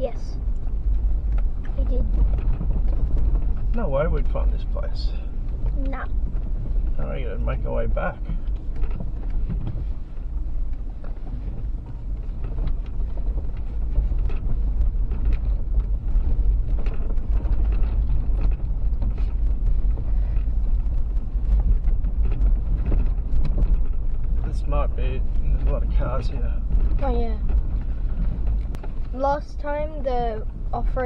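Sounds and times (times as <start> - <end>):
engine low rumble: 0.0 - 31.0
knocks and rattles: 0.0 - 31.0.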